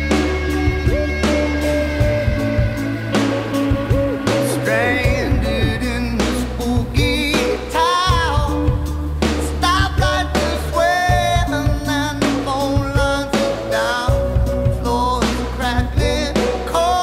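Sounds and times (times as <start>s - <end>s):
pop-rock song with vocals: 0.0s - 17.0s.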